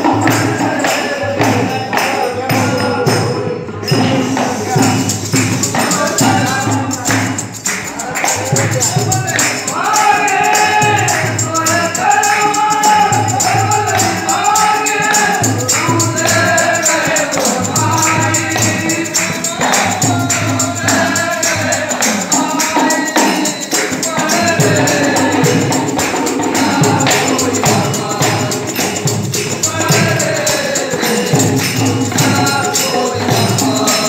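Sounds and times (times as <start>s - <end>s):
jingling hand percussion: 0.0s - 34.0s.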